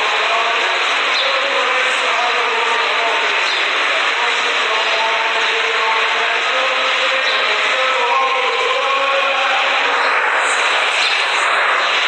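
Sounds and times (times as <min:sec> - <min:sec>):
murmur of people praying: 0:00.0 - 0:12.0.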